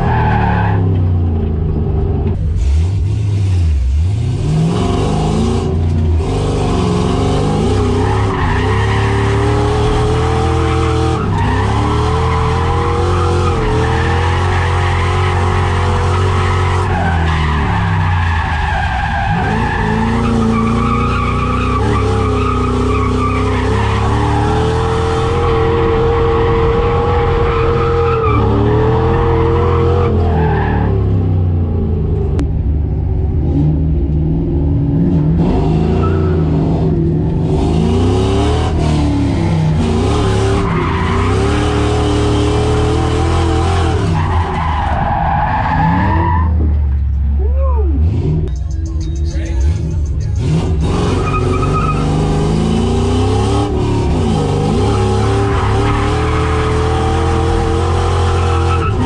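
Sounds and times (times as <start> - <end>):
tires skidding and squealing: 0.0 - 1.2, 2.5 - 31.2, 35.1 - 59.0
car engine revving: 0.0 - 59.0.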